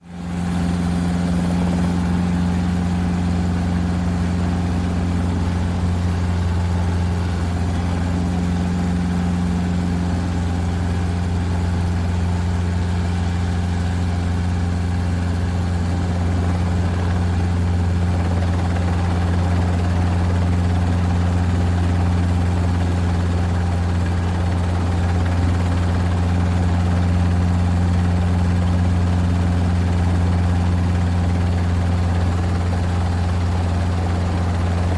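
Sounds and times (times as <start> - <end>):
helicopter drone from cabin: 0.0 - 34.9.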